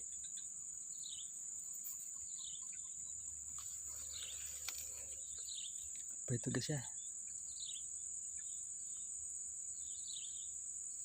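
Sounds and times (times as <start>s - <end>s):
falling bird chirps: 0.0s - 10.6s
high-pitched insect trill: 0.0s - 11.0s.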